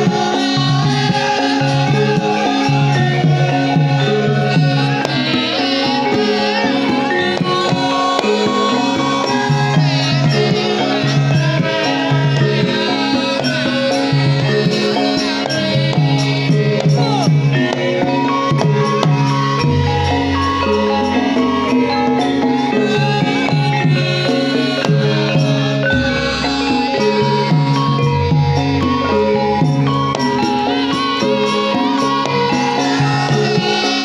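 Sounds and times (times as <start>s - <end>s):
gamelan metallophones and gongs: 0.0s - 34.0s
hand drumming: 0.0s - 34.0s.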